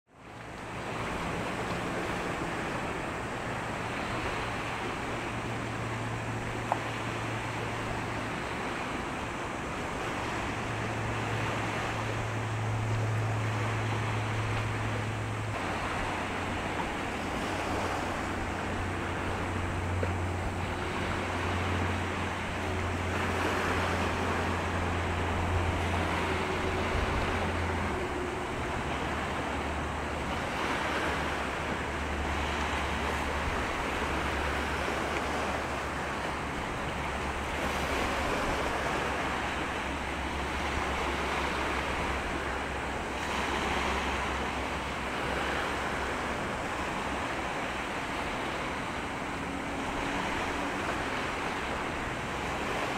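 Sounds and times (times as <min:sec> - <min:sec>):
wind: 0:00.0 - 0:52.9
low ship engine drone: 0:00.1 - 0:52.9
rushing wash of water: 0:00.1 - 0:52.9.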